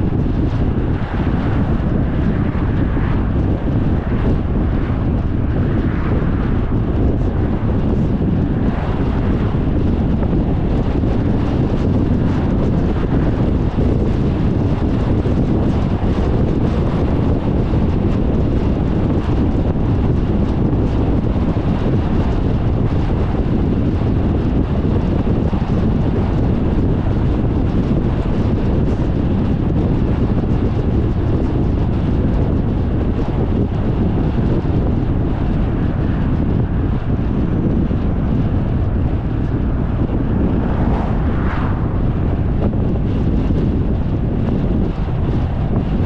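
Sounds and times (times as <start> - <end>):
car road noise at highway speed: 0.0 - 46.0
wind rumbling on microphone: 0.0 - 46.0.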